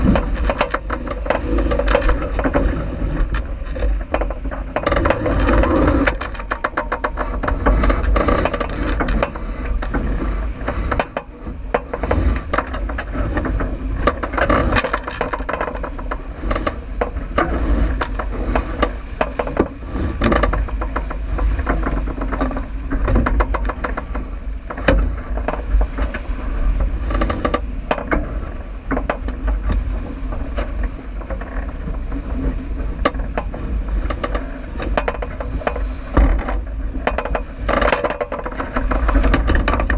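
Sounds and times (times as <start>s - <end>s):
knocks and rattles: 0.0s - 39.9s
wind and water rumble: 0.0s - 39.9s.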